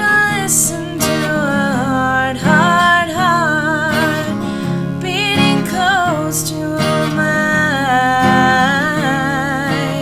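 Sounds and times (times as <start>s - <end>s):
acoustic guitar: 0.0s - 10.0s
person singing with vibrato: 0.0s - 10.0s.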